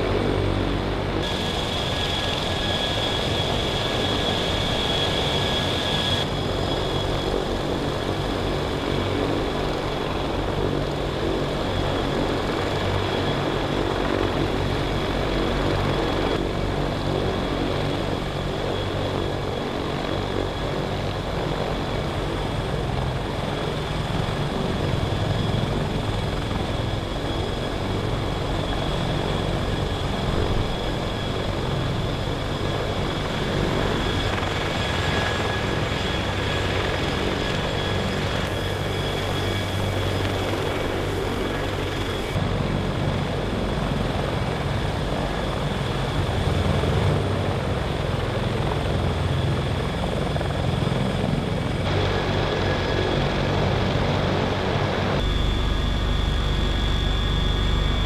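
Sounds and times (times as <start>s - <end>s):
helicopter rotor blades chopping: 0.0s - 58.0s
high engine whine: 0.0s - 58.0s.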